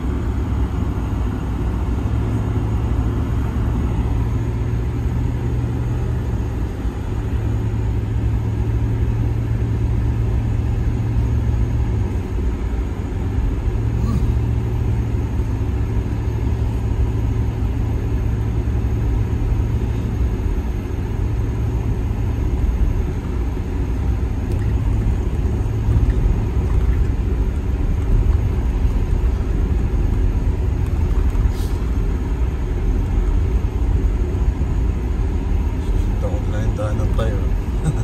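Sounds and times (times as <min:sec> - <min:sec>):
car rumble on snowy road: 0:00.0 - 0:38.0.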